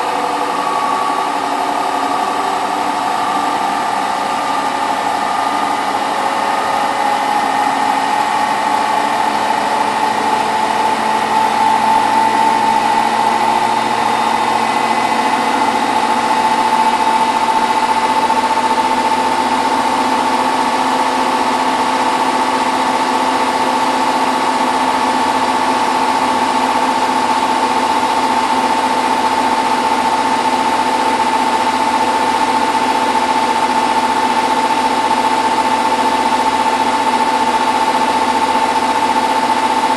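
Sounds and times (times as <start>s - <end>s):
washing machine spin whine: 0.0s - 39.9s.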